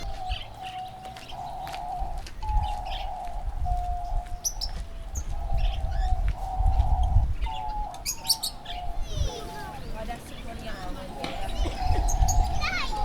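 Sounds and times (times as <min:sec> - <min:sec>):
bird calling held notes: 0:00.0 - 0:13.0
small birds chirping: 0:00.0 - 0:13.0.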